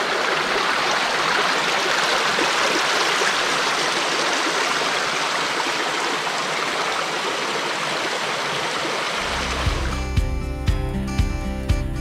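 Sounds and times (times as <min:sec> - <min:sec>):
creek running over rocks: 0:00.0 - 0:10.0.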